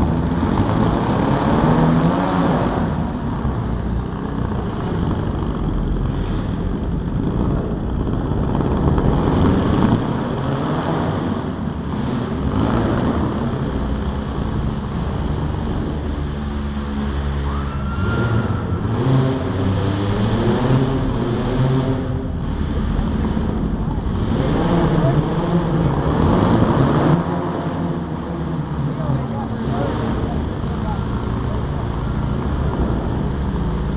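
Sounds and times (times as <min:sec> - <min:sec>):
car engines revving: 0:00.0 - 0:33.9
held pitched engine rev: 0:00.0 - 0:33.9.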